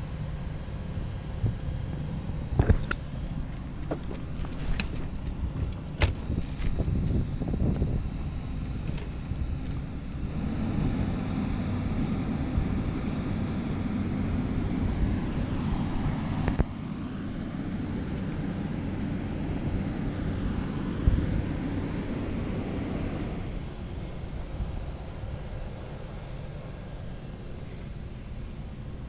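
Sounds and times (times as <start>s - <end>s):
wind noise on microphone: 1.0s - 16.7s, 17.6s - 25.8s.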